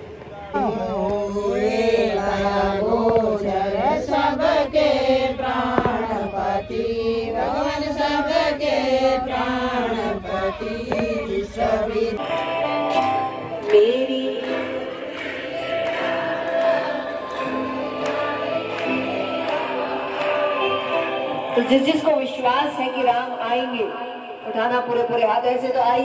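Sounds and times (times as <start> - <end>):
devotional song with music: 0.6 - 24.4.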